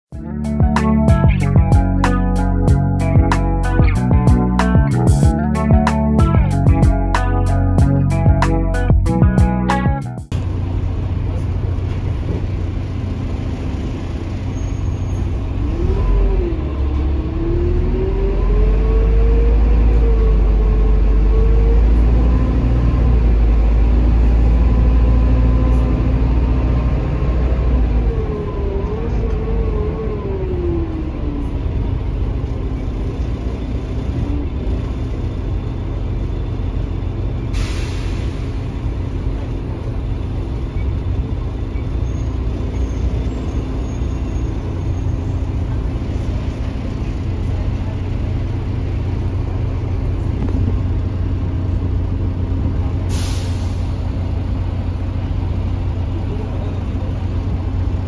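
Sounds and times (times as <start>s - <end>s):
bus engine rumble and whine: 0.1s - 58.0s.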